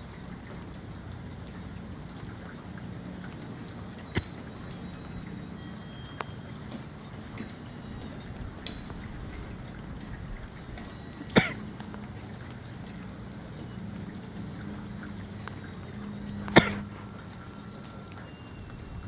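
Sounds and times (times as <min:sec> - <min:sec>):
gusty wind and rain: 0:00.0 - 0:19.0.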